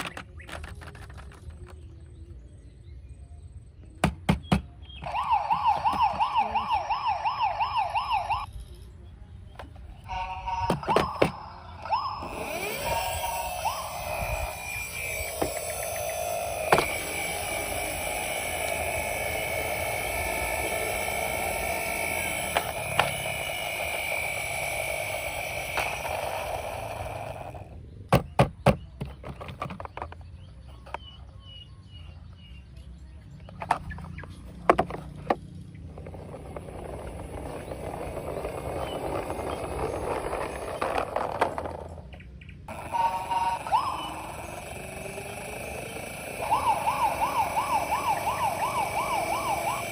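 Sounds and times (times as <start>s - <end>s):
toy vehicle whirring: 0.0s - 2.4s, 4.8s - 28.1s, 28.9s - 31.4s, 33.4s - 49.9s.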